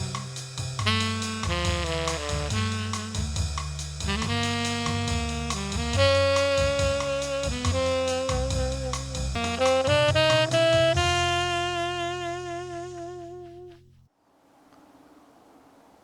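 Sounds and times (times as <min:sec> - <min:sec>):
saxophone jazz tune: 0:00.0 - 0:14.0.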